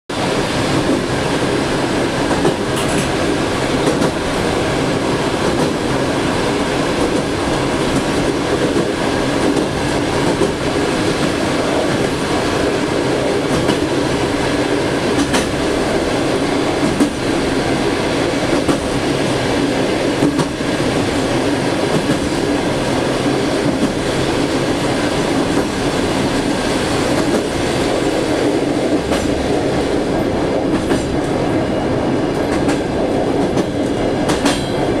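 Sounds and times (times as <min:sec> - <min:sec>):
train wheels rumbling on rails: 0:00.1 - 0:35.0.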